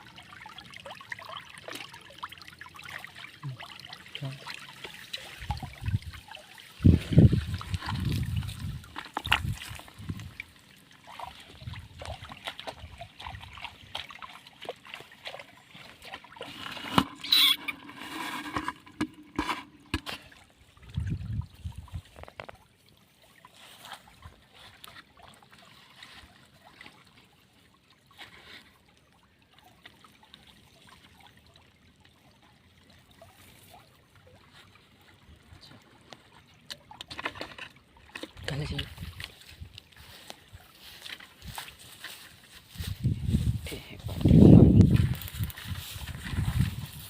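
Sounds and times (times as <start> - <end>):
shallow water trickling: 0.0 - 47.0
water splashing and sloshing: 0.0 - 47.0.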